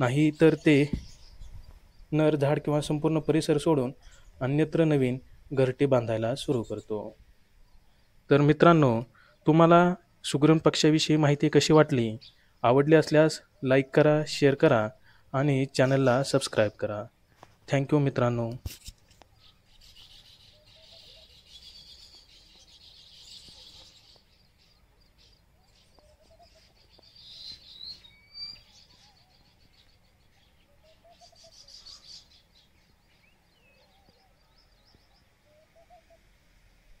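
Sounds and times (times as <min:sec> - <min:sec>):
birds chattering and chirping: 0:00.0 - 0:37.0.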